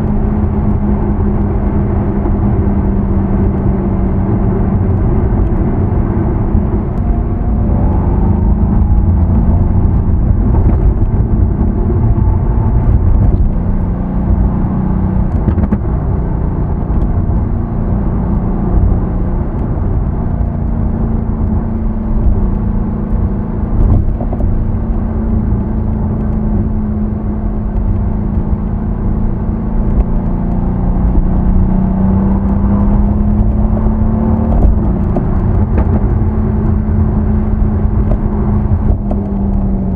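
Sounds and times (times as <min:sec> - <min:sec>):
car engine deep rumble: 0:00.0 - 0:39.9.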